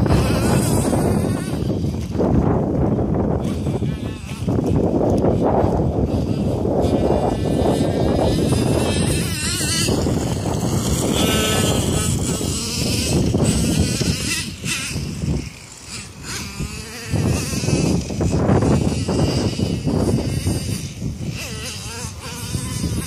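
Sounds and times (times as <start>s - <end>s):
model engine buzzing whine: 0.0s - 23.0s.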